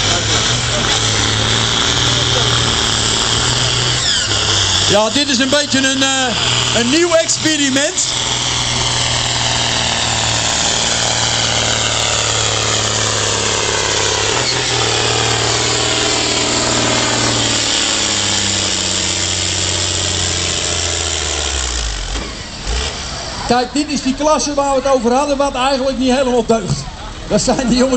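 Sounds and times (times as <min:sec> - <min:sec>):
tractor diesel engine under load: 0:00.0 - 0:27.9.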